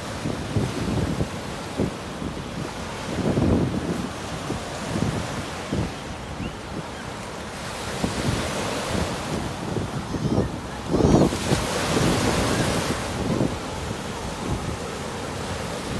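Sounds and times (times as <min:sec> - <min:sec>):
ocean surf breaking on beach: 0:00.0 - 0:15.9
wind buffeting microphone: 0:00.0 - 0:15.9.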